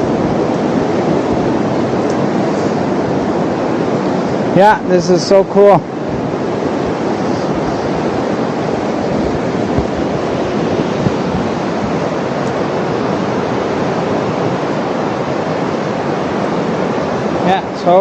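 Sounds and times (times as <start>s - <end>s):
ocean surf: 0.0s - 18.0s
wind buffeting microphone: 0.0s - 18.0s.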